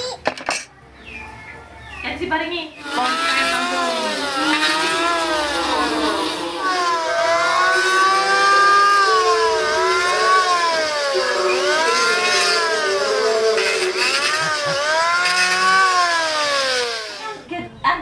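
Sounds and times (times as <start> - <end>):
electric hand planer on wood: 2.8 - 17.5.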